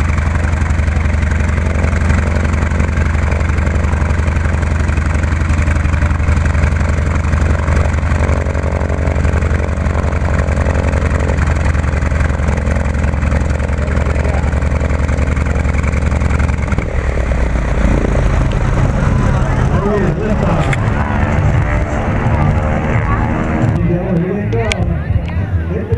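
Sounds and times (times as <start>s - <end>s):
radial aircraft engine idling: 0.0s - 25.9s.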